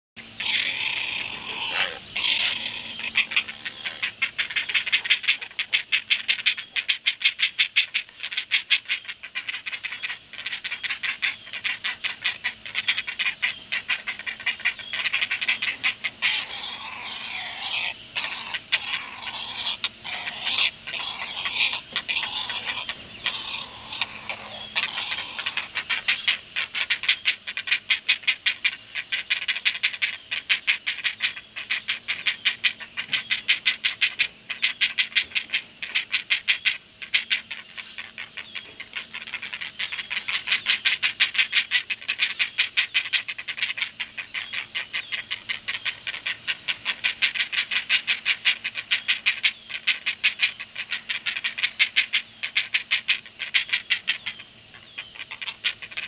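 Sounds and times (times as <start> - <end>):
heron chicks begging chatter: 0.2 - 56.0.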